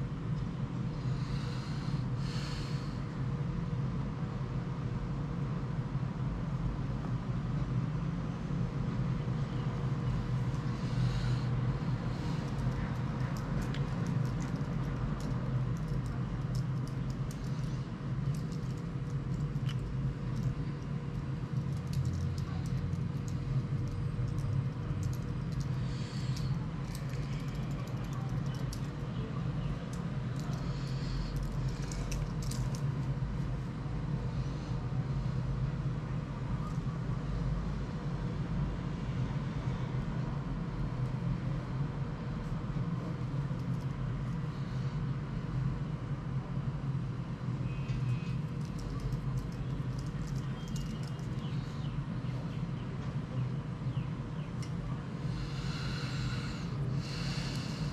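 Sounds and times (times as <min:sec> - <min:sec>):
low rumble and hum: 0:00.0 - 0:57.9.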